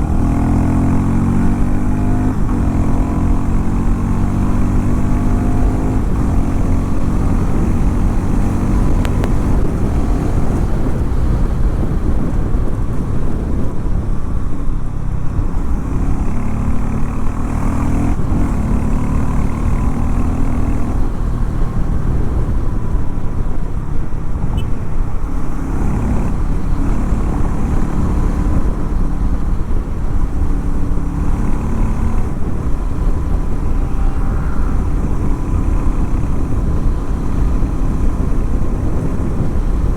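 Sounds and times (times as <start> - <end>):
motorcycle engine revving: 0.0 - 14.0, 15.0 - 39.9.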